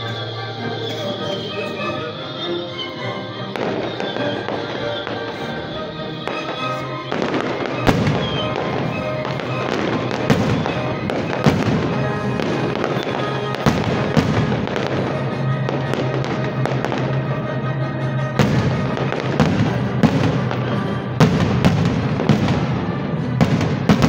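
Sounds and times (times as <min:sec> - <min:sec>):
fireworks bangs: 0:00.0 - 0:24.0
fireworks crackling: 0:00.0 - 0:24.0
music playing: 0:00.0 - 0:24.0.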